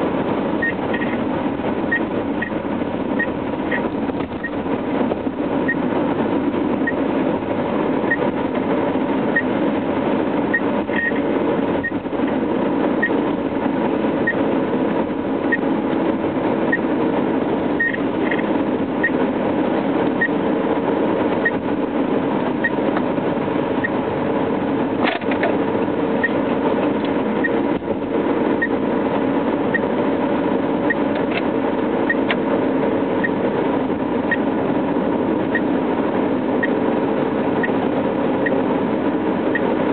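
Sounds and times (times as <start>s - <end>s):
engine and road noise: 0.0s - 39.9s.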